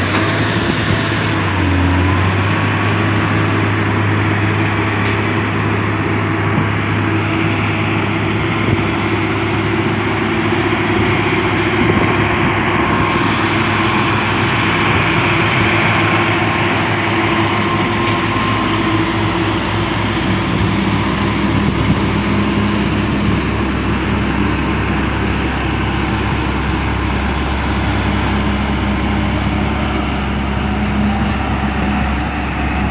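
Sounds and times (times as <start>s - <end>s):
diesel truck engine drone: 0.0s - 32.9s
tyre and road noise: 0.0s - 32.9s.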